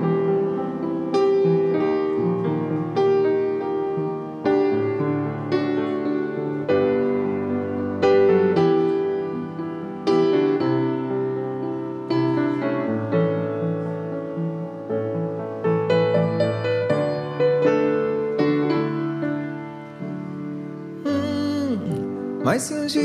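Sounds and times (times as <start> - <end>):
grand piano chords ringing: 0.0 - 23.0.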